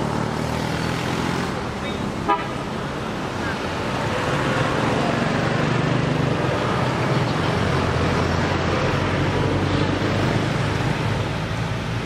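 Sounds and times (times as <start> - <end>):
road traffic noise: 0.0 - 12.0
vehicle engine humming: 0.0 - 12.0.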